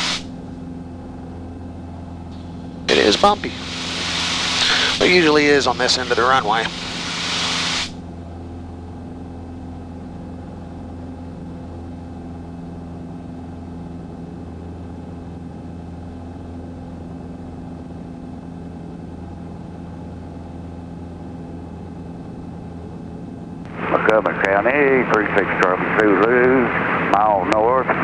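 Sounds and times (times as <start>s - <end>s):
aircraft engine and propeller droning: 0.0s - 28.0s.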